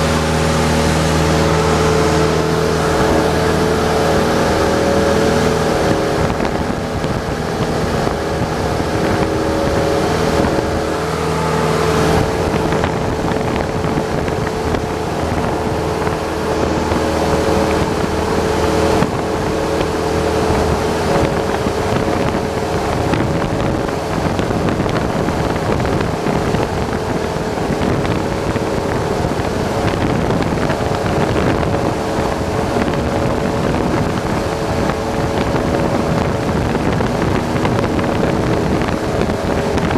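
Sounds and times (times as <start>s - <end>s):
propeller plane engine droning: 0.0s - 39.9s
rush of air: 0.0s - 39.9s.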